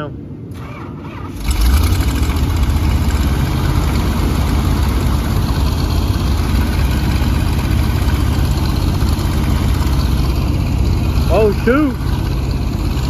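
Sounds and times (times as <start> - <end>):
truck engine idling: 0.5 - 13.0.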